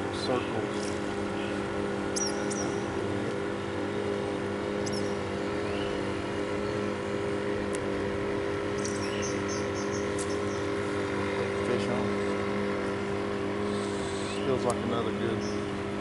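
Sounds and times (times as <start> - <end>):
steady motor hum: 0.0 - 16.0.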